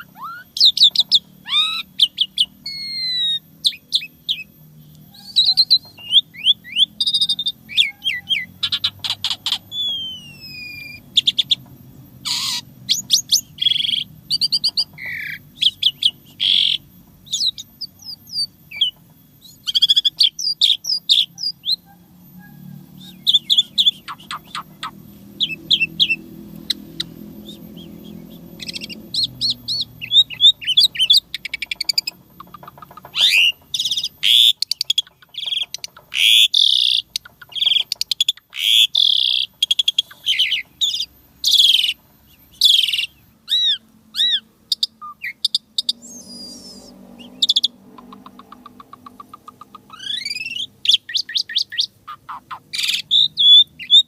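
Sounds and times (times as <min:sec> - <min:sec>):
starling singing chirps and trills: 0:00.0 - 0:54.0.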